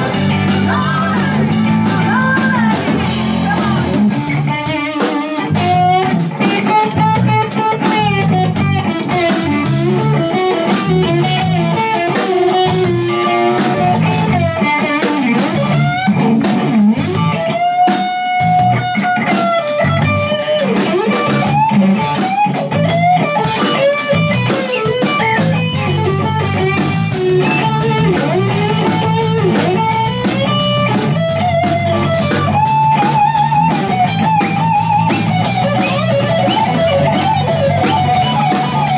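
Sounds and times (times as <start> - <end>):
drum kit: 0.0 - 38.9
electric guitar lead: 0.0 - 38.9.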